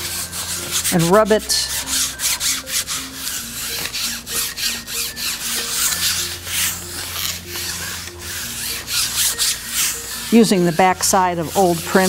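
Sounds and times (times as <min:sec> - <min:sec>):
baren rubbing over paper: 0:00.0 - 0:12.0.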